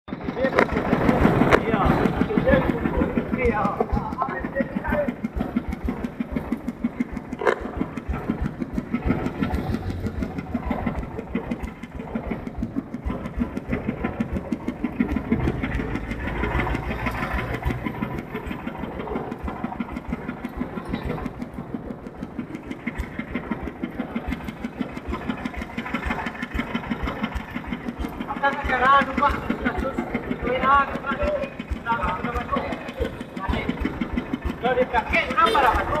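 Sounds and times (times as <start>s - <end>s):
engine running with even thump: 0.1s - 36.0s.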